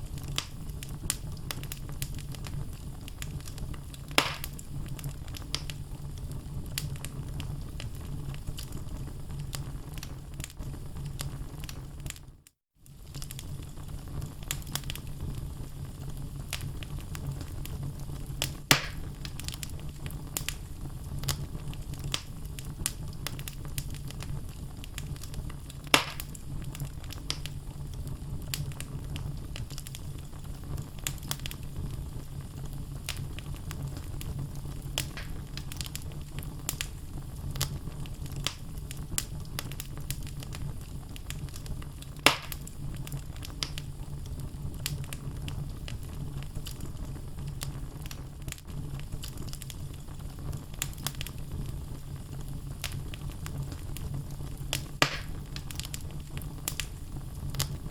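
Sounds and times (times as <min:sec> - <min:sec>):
loud fire pops: 0:00.0 - 0:57.9
low rumble of flame: 0:00.0 - 0:57.9
logs crackling and snapping: 0:00.1 - 0:08.9, 0:12.9 - 0:13.6, 0:14.4 - 0:15.1, 0:16.5 - 0:17.8, 0:18.4 - 0:57.9.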